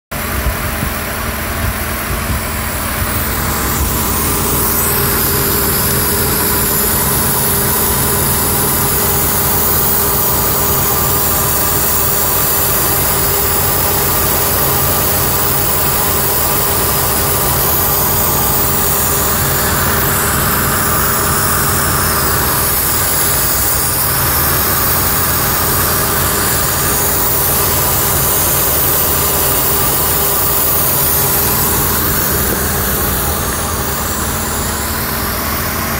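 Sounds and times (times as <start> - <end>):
car engine idling: 0.2 - 35.9.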